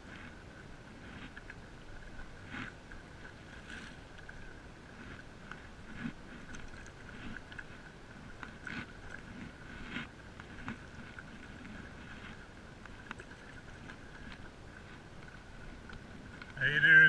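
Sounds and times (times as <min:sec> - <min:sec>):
paddle splashing in water: 0:00.0 - 0:16.6
faint steady tone: 0:00.0 - 0:17.0.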